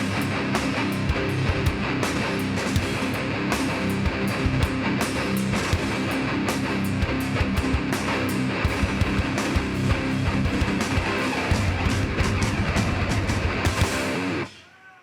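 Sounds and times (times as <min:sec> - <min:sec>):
live heavy band playing: 0:00.0 - 0:14.6.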